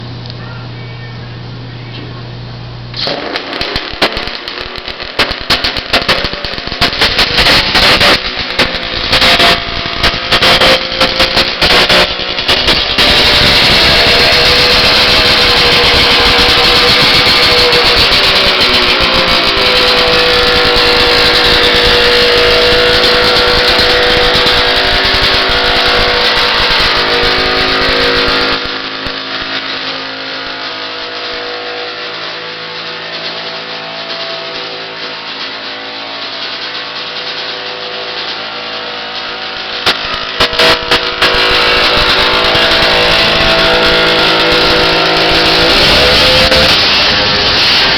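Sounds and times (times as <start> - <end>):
snowmobile engine running: 3.0 - 47.9.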